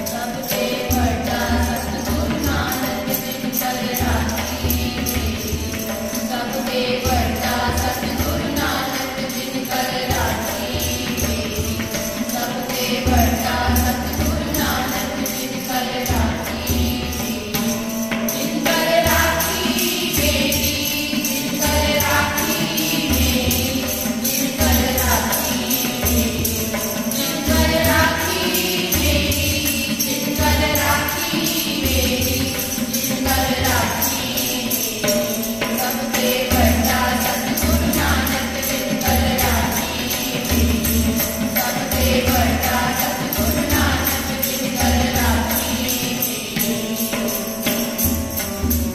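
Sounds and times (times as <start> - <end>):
harmonium: 0.0 - 48.9
jingling hand percussion: 0.0 - 48.9
women singing a hymn: 0.0 - 48.9
tabla strokes: 0.2 - 48.9.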